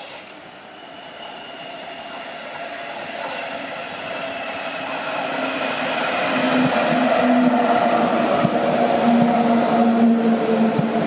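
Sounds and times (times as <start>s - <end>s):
train approaching on tracks: 0.0s - 11.0s.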